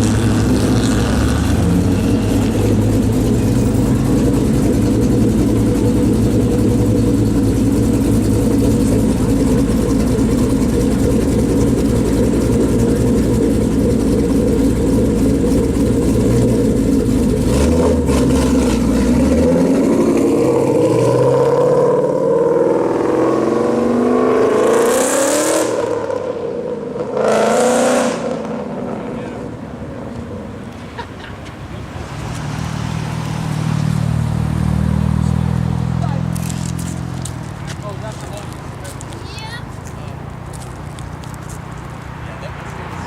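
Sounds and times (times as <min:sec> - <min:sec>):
car engine idling and accelerating: 0:00.0 - 0:43.0.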